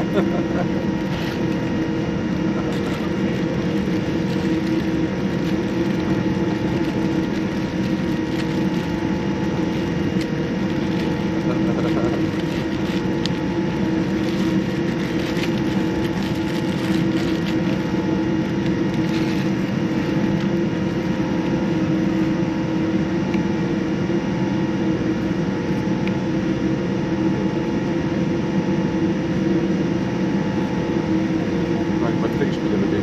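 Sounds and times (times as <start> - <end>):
airplane cabin air rush: 0.0 - 33.0
constant low hum: 0.0 - 33.0.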